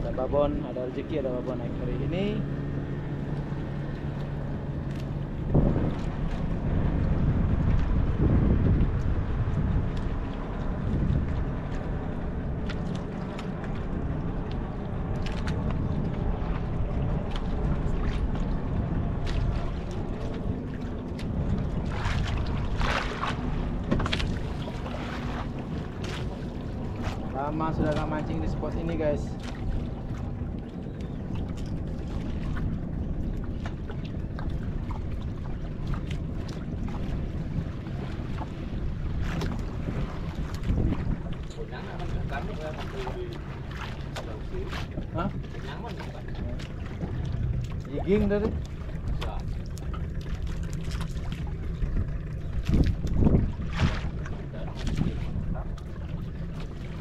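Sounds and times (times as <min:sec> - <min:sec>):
fishing boat engine rumble: 0:00.0 - 0:57.0
water noise: 0:00.0 - 0:57.0
wind: 0:00.0 - 0:57.0
small splashes: 0:09.8 - 0:57.0.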